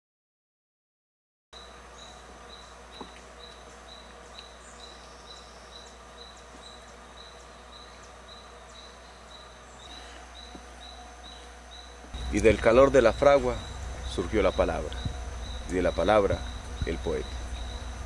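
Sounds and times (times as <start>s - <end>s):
faint low hum: 1.6s - 18.0s
insect chirping: 1.6s - 18.0s
scattered higher chirps: 1.6s - 18.0s.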